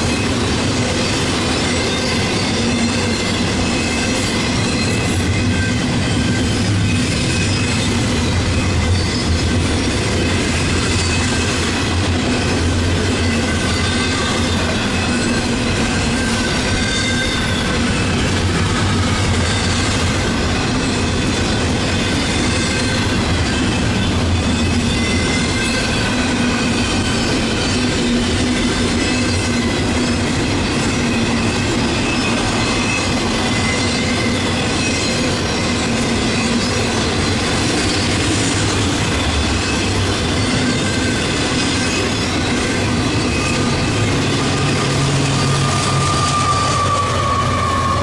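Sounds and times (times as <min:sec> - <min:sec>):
diesel locomotive engine: 0:00.0 - 0:48.0
train wheels rumbling on rails: 0:00.0 - 0:48.0
wheel squeal: 0:00.1 - 0:11.8, 0:13.0 - 0:48.0.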